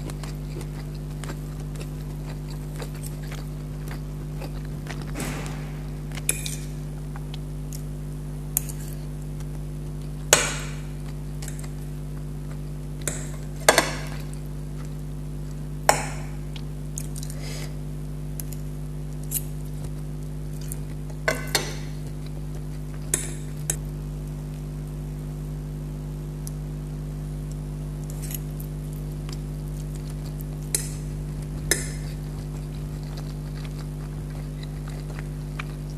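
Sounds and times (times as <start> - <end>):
low electrical hum: 0.0 - 35.9.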